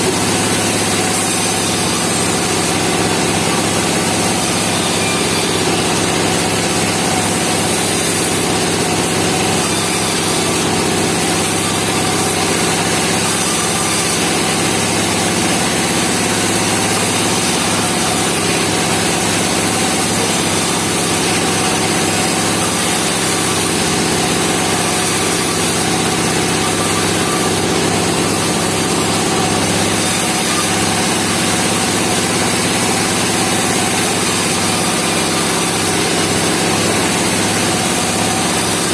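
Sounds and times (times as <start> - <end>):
band sawmill machine drone: 0.0 - 38.9.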